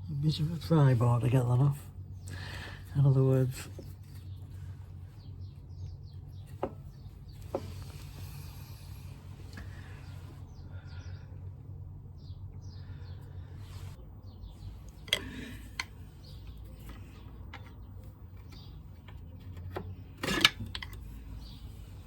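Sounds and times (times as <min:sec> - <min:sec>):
birds chirping: 0:00.0 - 0:20.2, 0:20.8 - 0:22.0.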